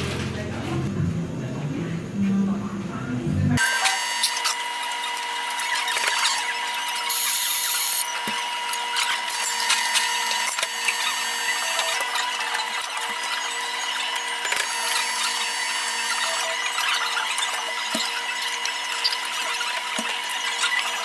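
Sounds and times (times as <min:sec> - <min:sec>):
cafe machinery humming: 0:00.0 - 0:21.0.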